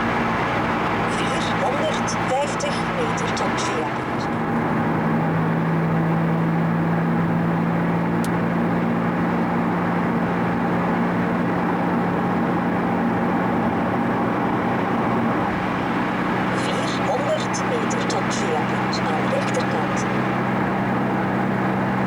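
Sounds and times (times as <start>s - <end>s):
car engine running: 0.0s - 22.0s
road and tyre noise: 0.0s - 22.0s.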